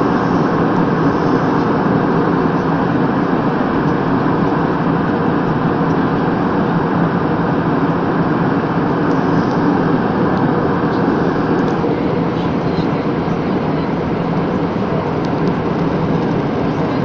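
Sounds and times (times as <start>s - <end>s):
airplane cabin engine roar: 0.0s - 17.0s.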